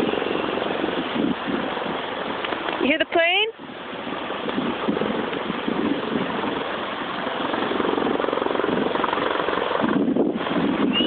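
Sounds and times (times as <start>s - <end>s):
aircraft engine drone overhead: 0.0s - 2.8s, 3.5s - 11.0s.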